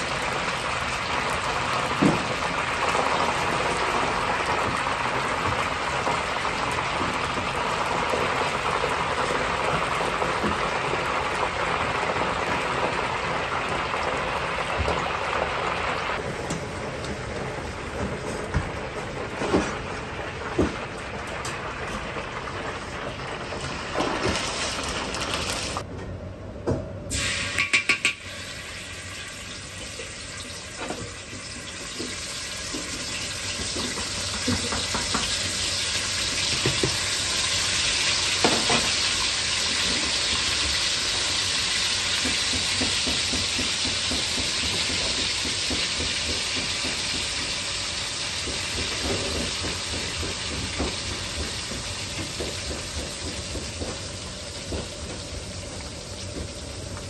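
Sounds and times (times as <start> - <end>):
oil sizzling in a wok: 0.0 - 25.9, 27.1 - 57.0.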